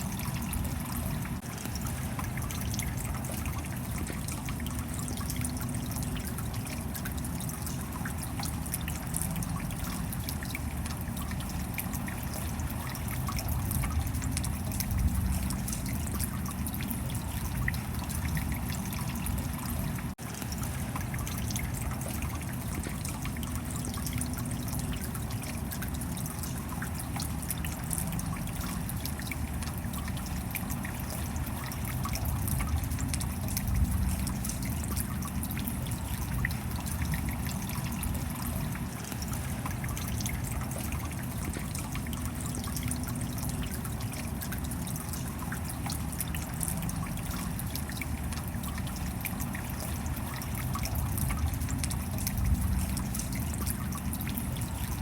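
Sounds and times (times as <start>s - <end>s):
rain drops ticking: 0.0s - 55.0s
water trickling: 0.0s - 55.0s.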